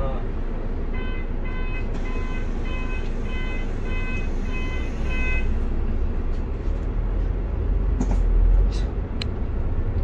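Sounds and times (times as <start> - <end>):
low rumble of bus engine: 0.0 - 10.0
road noise: 0.0 - 10.0.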